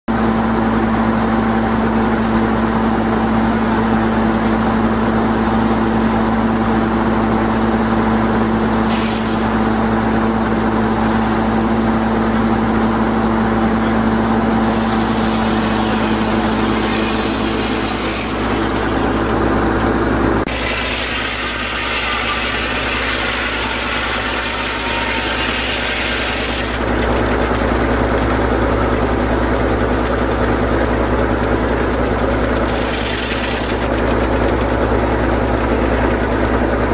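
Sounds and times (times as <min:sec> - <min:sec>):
sawmill engine running: 0:00.1 - 0:36.9.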